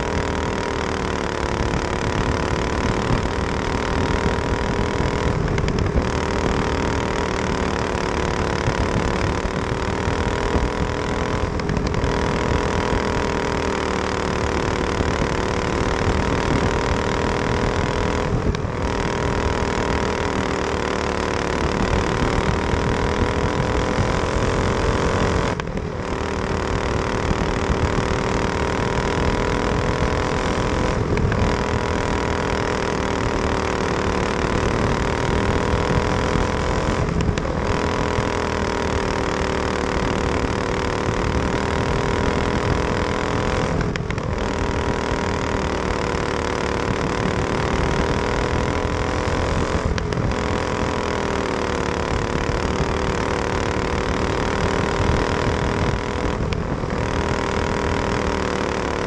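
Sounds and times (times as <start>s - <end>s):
racing kart engine running hard: 0.0s - 59.0s.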